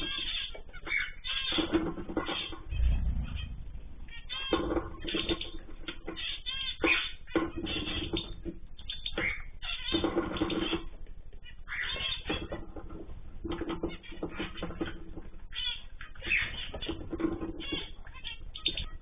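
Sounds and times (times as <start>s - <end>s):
birds calling and chattering: 0.0s - 19.0s.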